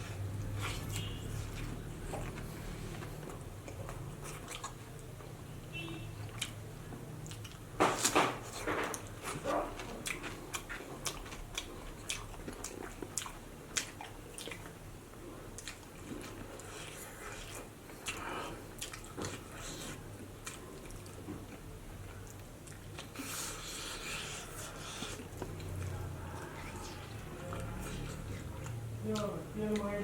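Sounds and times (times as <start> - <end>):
person chewing with open mouth: 0.0 - 5.4, 6.2 - 29.9.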